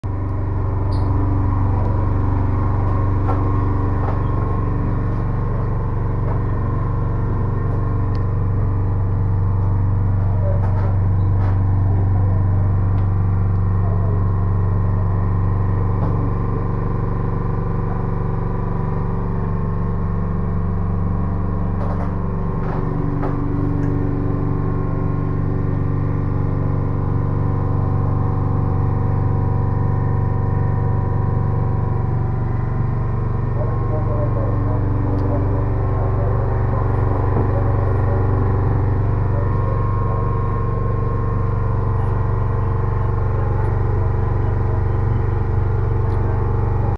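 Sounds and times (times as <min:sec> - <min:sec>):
boat engine humming: 0:00.0 - 0:46.9.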